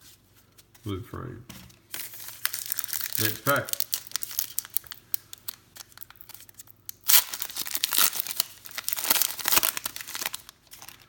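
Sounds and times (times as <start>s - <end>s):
wrapper crackling rustle: 1.9s - 11.0s
wrapper ripping open: 1.9s - 11.0s.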